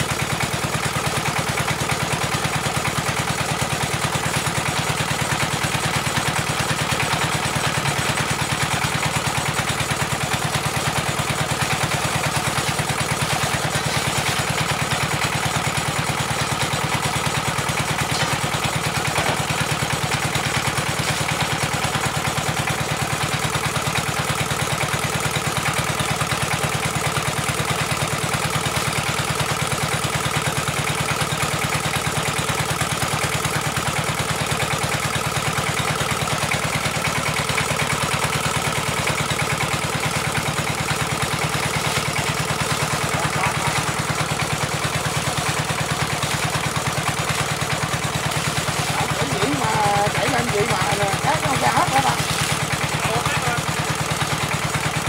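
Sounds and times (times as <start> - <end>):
drilling rig engine chugging: 0.0 - 55.0.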